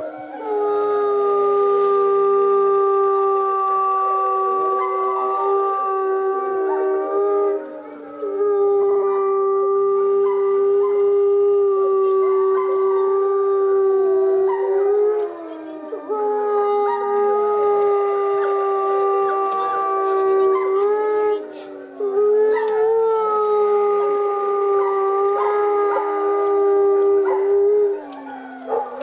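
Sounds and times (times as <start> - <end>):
wolves howling: 0.0 - 29.0.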